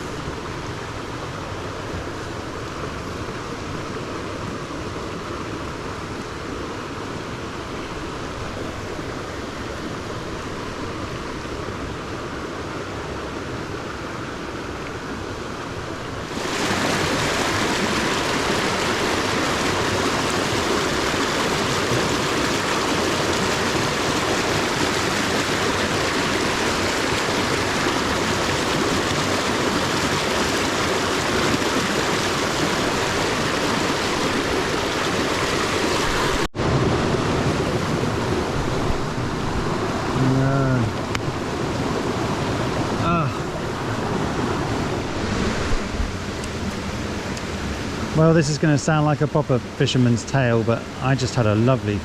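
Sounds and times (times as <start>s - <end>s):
water rushing over stones: 0.0s - 52.0s.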